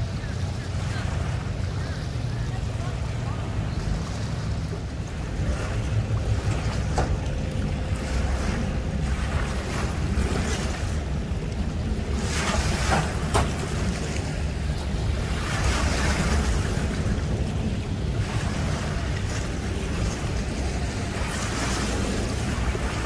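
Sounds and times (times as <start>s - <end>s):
water splashing onto concrete ramp: 0.0s - 23.0s
wind rumbling on microphone: 0.0s - 23.0s.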